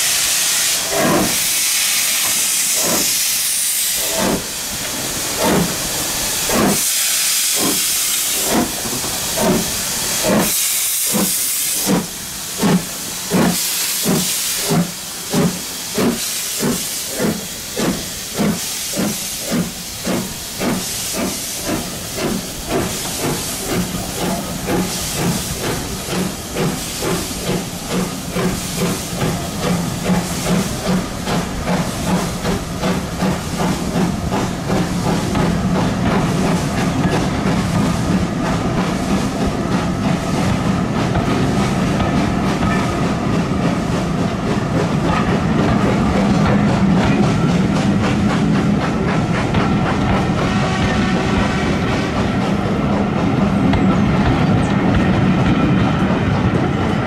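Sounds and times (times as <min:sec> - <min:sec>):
locomotive steam hiss: 0:00.0 - 0:54.9
low train rumble: 0:00.0 - 0:57.0
train wheels clicking over rail joints: 0:00.3 - 0:57.0.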